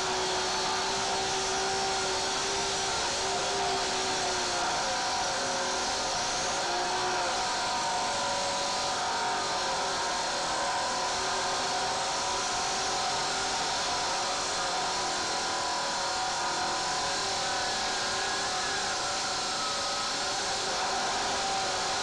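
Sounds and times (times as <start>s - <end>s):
circular saw cutting concrete: 0.0s - 22.0s.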